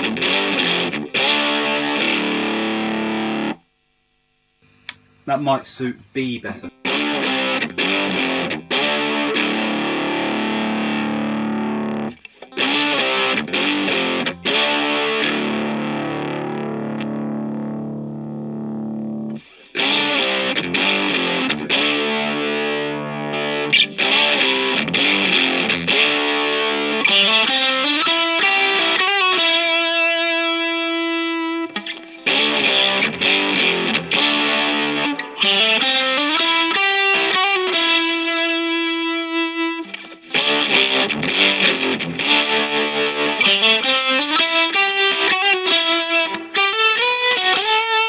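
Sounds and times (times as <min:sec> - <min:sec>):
overdriven electric guitar chords: 0:00.0 - 0:05.3, 0:06.7 - 0:48.0.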